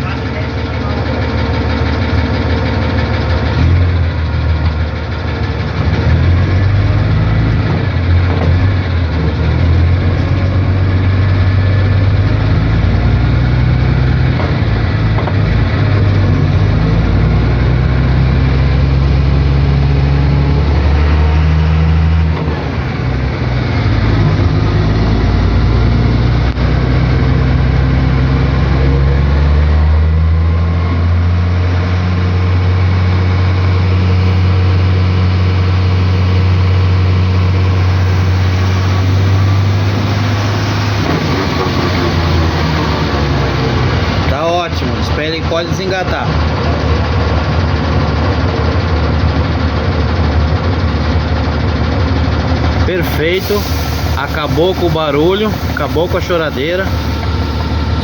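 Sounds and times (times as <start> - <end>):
truck engine running under load: 0.0 - 58.0.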